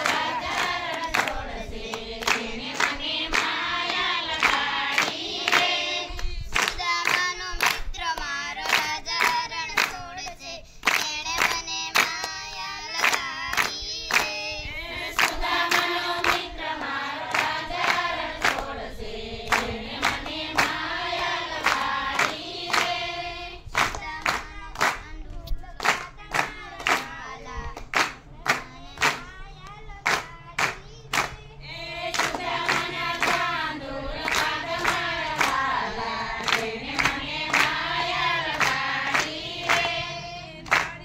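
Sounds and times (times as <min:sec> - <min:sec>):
hand-clapping: 0:00.0 - 0:14.5, 0:15.1 - 0:18.8, 0:19.5 - 0:23.0, 0:23.7 - 0:41.0
voices singing devotional song: 0:00.0 - 0:41.0.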